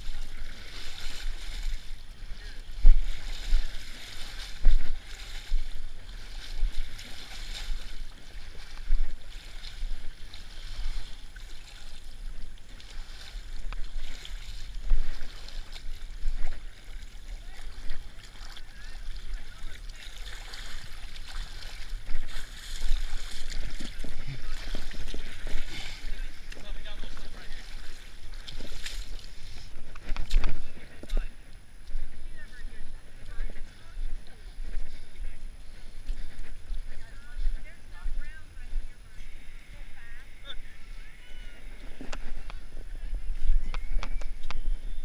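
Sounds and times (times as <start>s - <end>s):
muddy water splashing: 0.0s - 45.0s
wind rumble on microphone: 0.0s - 45.0s.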